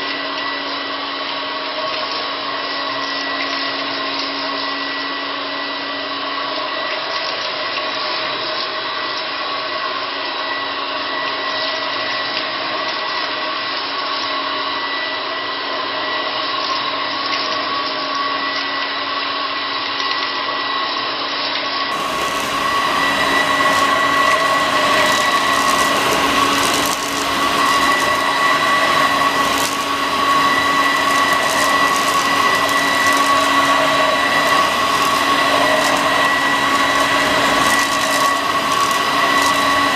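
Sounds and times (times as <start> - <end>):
vacuum cleaner whining: 0.0 - 19.7, 21.8 - 39.9.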